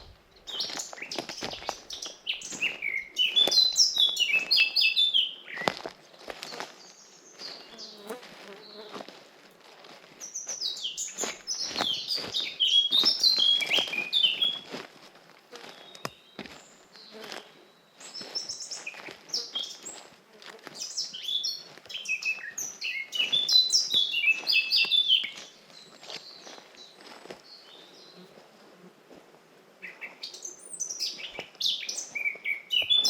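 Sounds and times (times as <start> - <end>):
songbird singing: 0.0 - 8.9, 10.2 - 14.7, 15.6 - 28.3, 29.8 - 33.0.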